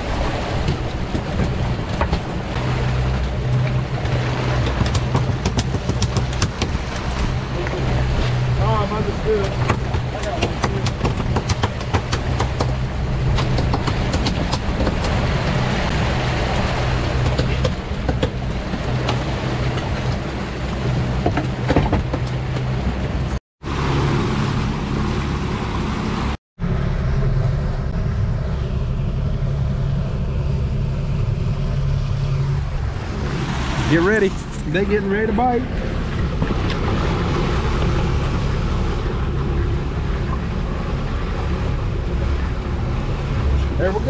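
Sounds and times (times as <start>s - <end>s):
outboard motor running: 0.0s - 44.0s
wind and water rushing: 0.0s - 44.0s.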